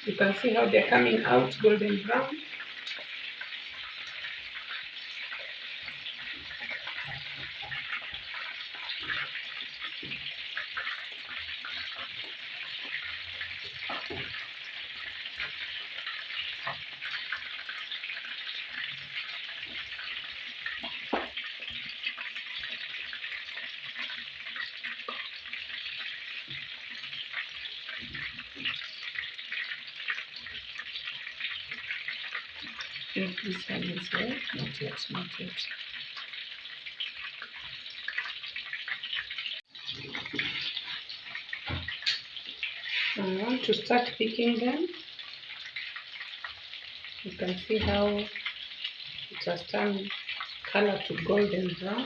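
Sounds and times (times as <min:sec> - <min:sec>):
food deep-frying in oil: 0:00.0 - 0:52.0.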